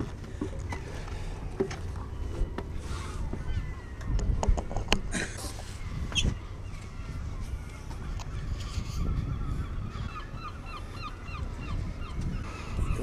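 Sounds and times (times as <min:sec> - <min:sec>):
flock of birds calling: 0:00.0 - 0:04.6, 0:05.4 - 0:13.0.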